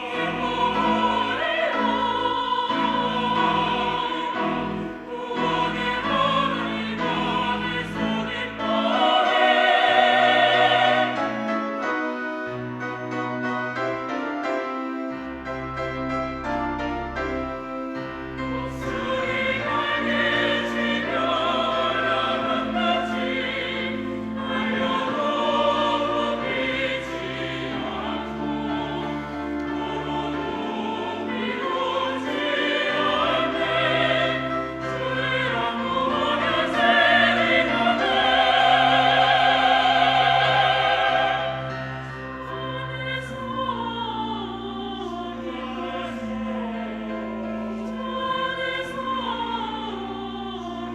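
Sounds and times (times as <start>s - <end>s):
church choir singing: 0.0s - 50.9s
instrumental accompaniment: 0.0s - 50.9s.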